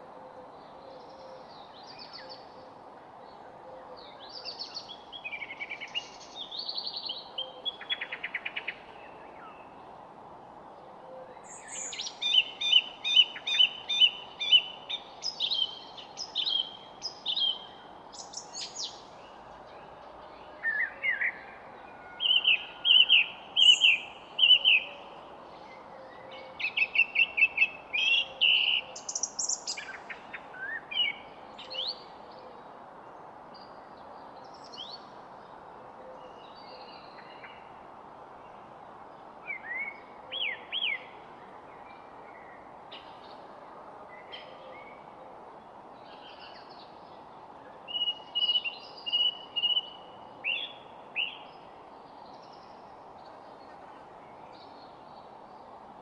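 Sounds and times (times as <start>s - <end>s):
outdoor background hiss: 0.0s - 56.0s
songbirds chirping and trilling: 0.0s - 56.0s.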